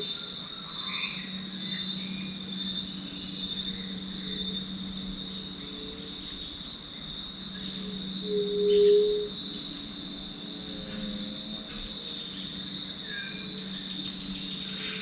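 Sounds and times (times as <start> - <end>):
insects droning: 0.0 - 15.0
low steady hum: 0.0 - 15.0.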